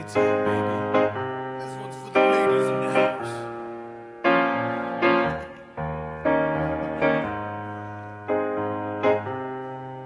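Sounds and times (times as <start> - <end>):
piano chords: 0.0 - 10.0.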